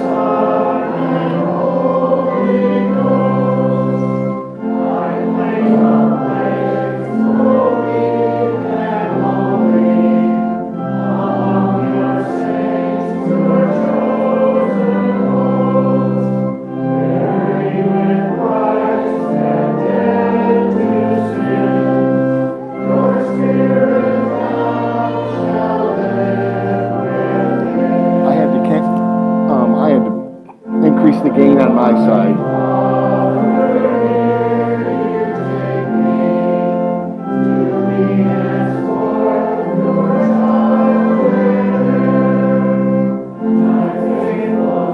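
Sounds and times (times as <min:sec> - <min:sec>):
choir singing a hymn: 0:00.0 - 0:44.9.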